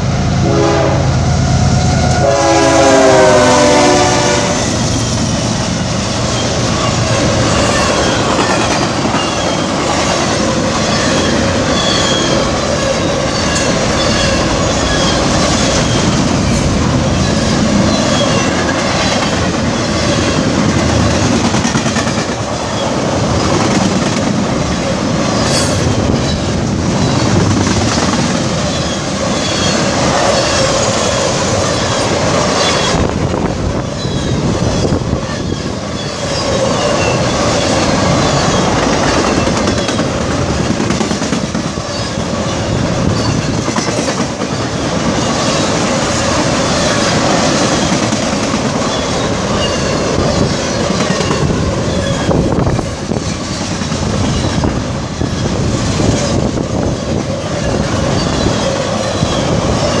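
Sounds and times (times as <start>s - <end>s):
train wheels rumbling on rails: 0.0s - 60.0s
wheels clickety-clack on rail joints: 4.7s - 60.0s.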